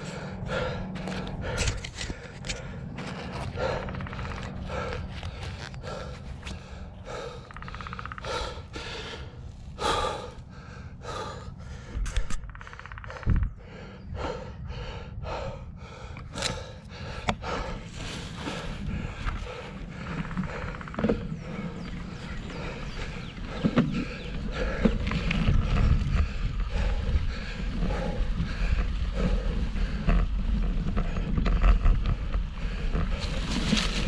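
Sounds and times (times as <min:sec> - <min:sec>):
low rumble: 0:00.0 - 0:34.0
person panting: 0:00.0 - 0:34.0.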